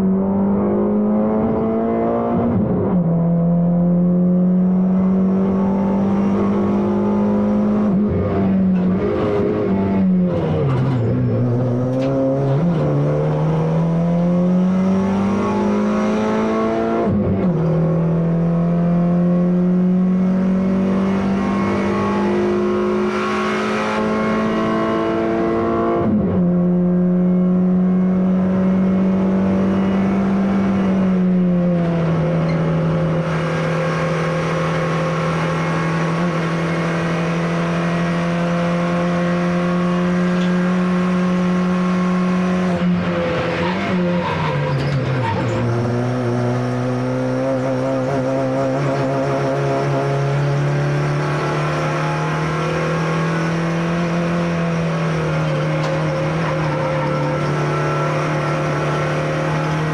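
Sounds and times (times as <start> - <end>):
car engine accelerating hard: 0.0 - 59.9.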